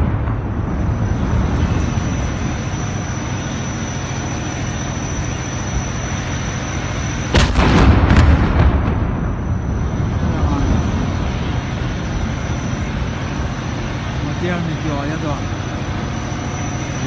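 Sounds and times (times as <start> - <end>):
loud blast with ringing echo: 0.0 - 14.2
steady low rumble: 0.0 - 17.0.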